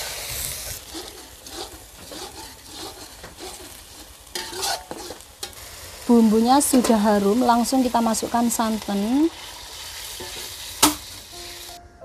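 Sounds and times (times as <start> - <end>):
spice paste sizzling in oil: 0.0 - 11.8
metal spoon scraping a wok: 0.7 - 11.8.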